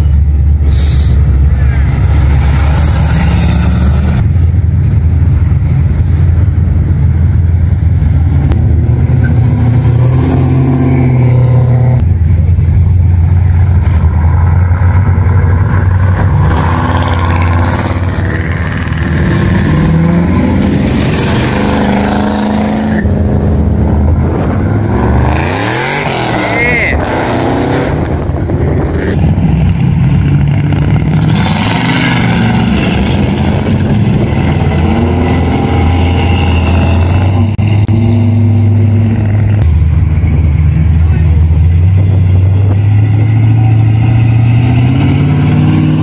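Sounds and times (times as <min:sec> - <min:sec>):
deep exhaust rumble of cars: 0:00.0 - 0:46.0.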